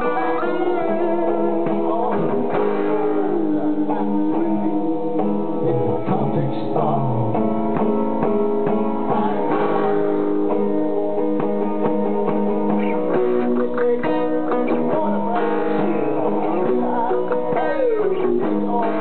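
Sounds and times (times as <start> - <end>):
acoustic and electric guitars: 0.0 - 19.0.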